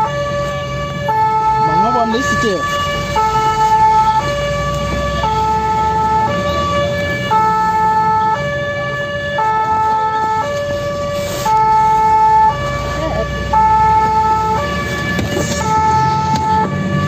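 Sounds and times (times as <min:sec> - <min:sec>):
two-tone fire engine siren: 0:00.0 - 0:17.0.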